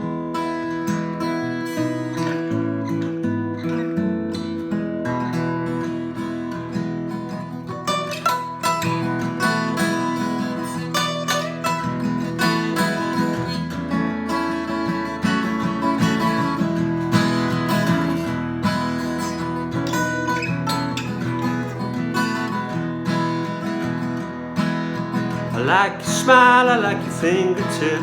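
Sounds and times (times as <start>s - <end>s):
acoustic guitar picking: 0.0s - 28.0s.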